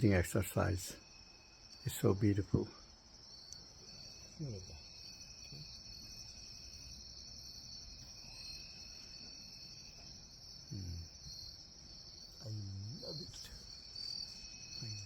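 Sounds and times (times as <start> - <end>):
crickets trilling: 0.0 - 15.0
rhythmic insect pulsing: 0.0 - 15.0.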